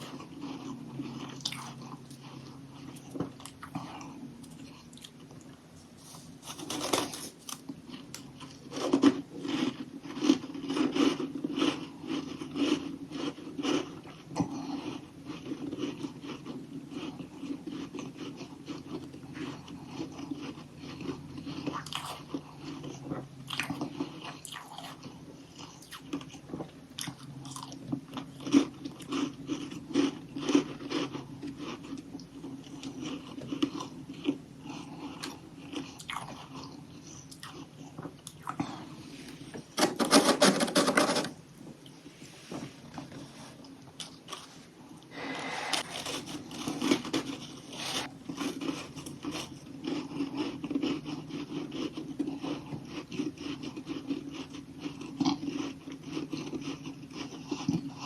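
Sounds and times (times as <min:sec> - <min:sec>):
crunching and chewing ice: 0:00.0 - 0:41.3, 0:43.1 - 0:58.0.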